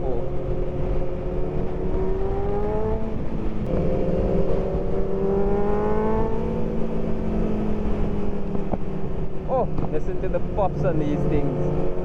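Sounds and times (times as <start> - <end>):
motorcycle engine accelerating: 0.0 - 12.0
wind rumble on microphone: 0.0 - 12.0.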